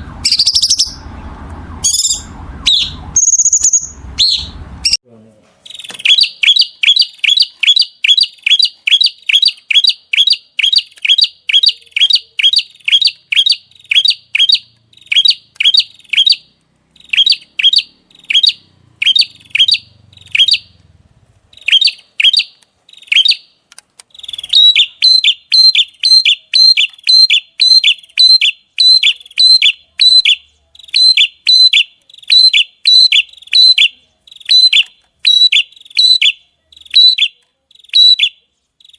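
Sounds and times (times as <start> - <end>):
songbird sharp chirps: 0.0 - 5.0, 5.6 - 20.9, 21.5 - 38.9.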